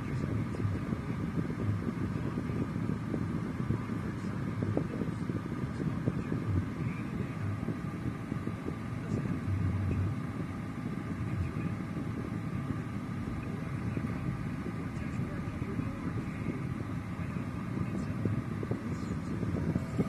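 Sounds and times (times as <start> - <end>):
city traffic rumble: 0.0 - 20.0
faint steady hum: 0.0 - 20.0.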